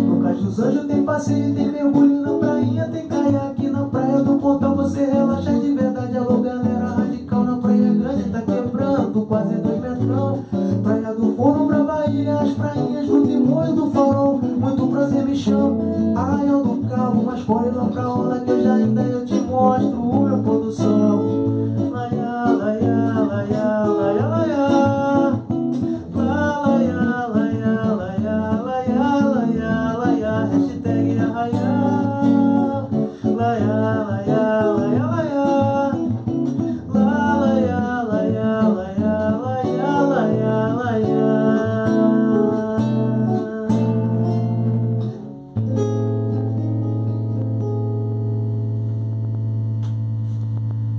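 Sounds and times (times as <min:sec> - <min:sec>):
man singing wordless melody: 0:00.0 - 0:45.2
strummed acoustic guitar: 0:00.0 - 0:50.5.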